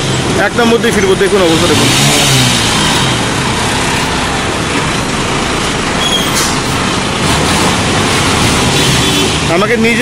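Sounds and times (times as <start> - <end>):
dense wash of noise: 0.0 - 10.0
truck engine drone: 0.0 - 10.0.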